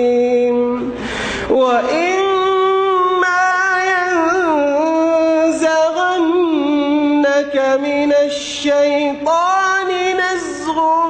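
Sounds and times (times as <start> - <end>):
man chanting recitation: 0.0 - 11.0.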